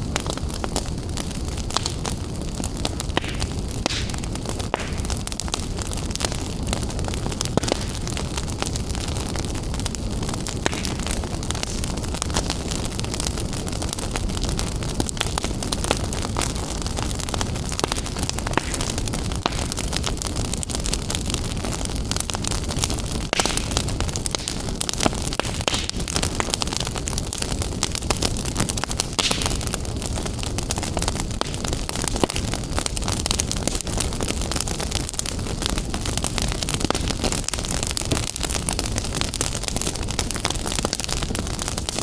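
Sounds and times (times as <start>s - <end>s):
wood fire crackling and popping: 0.0s - 42.0s.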